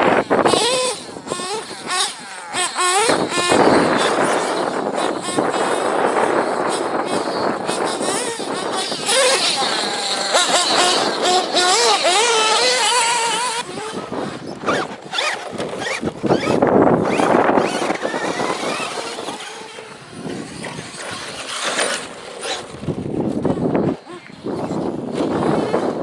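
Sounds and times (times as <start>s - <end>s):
rc car engines buzzing: 0.0s - 26.0s.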